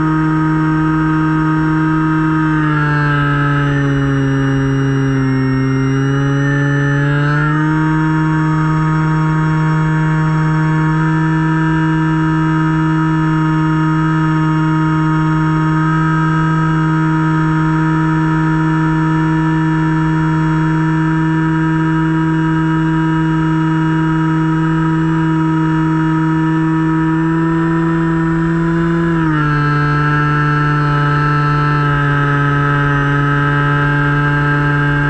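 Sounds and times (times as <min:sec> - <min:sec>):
model plane motor whining: 0:00.0 - 0:35.0.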